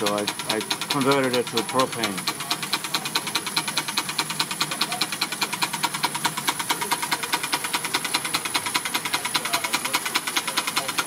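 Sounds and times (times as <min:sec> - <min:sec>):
model steam engines beating: 0:00.0 - 0:11.0.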